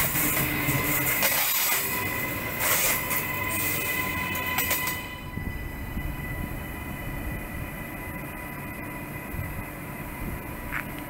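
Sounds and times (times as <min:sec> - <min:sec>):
steady high whine: 0:00.0 - 0:11.0
train rumble: 0:00.0 - 0:11.0
train wheels rushing on rails: 0:00.0 - 0:11.0.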